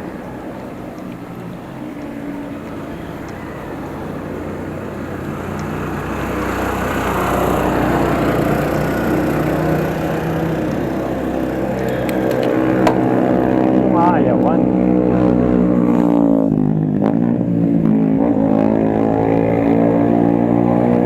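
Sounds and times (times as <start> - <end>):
vehicle engine on the road: 0.0 - 21.0
wind and road noise: 0.0 - 21.0.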